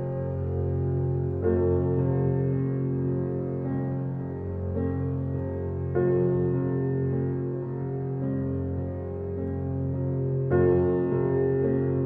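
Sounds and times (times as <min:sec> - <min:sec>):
calm ambient music: 0:00.0 - 0:12.0.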